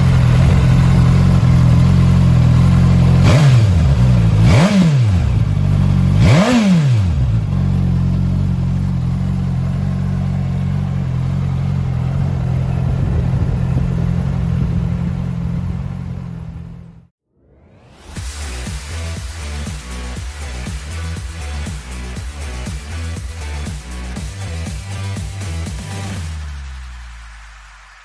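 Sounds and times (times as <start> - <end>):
motorcycle engine revving and idling: 0.0 - 17.2, 18.0 - 27.0.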